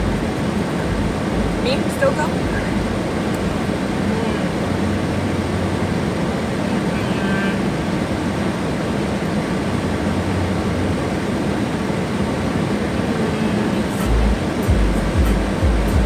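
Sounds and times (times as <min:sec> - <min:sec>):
car air conditioning blowing: 0:00.0 - 0:16.0
car engine hum: 0:00.0 - 0:16.0.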